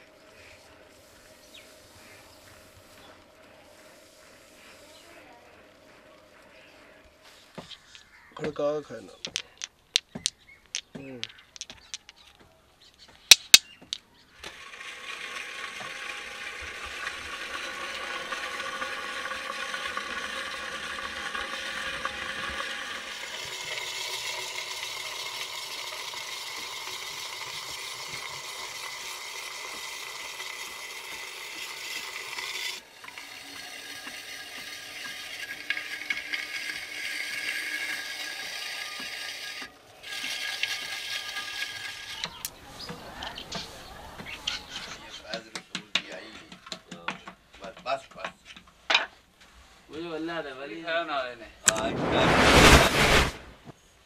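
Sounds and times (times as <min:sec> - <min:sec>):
pebble scraping spinning clay pot: 0:00.0 - 0:12.4, 0:13.2 - 0:45.4, 0:51.7 - 0:53.7.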